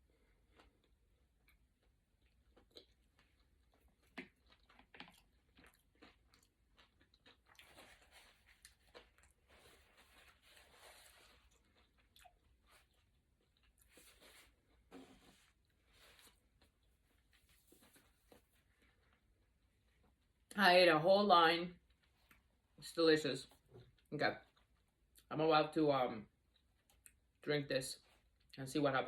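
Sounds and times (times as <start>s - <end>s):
chewing and crunching food: 0.0s - 20.5s, 21.7s - 22.8s, 23.4s - 25.3s, 26.3s - 27.4s.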